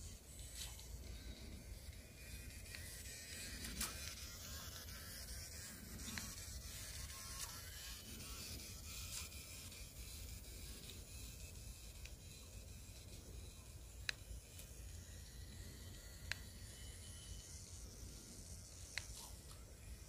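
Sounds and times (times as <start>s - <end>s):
small electric motors buzzing: 0.0s - 20.0s.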